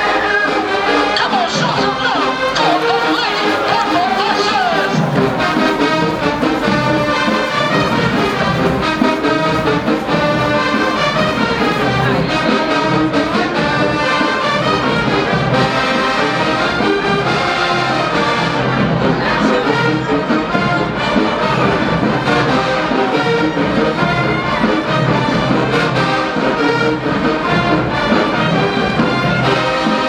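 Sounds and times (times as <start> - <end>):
drum line: 0.0 - 30.0
marching band brass: 0.0 - 30.0.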